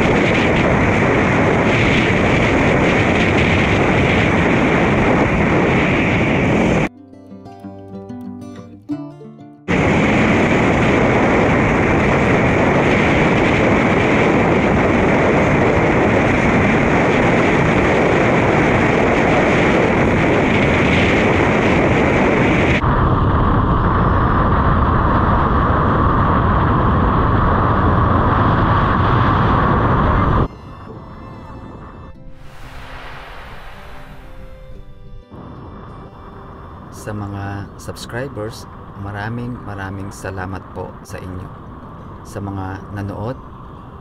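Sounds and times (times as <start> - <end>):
wind and road noise rushing: 0.0 - 6.9, 9.7 - 44.0.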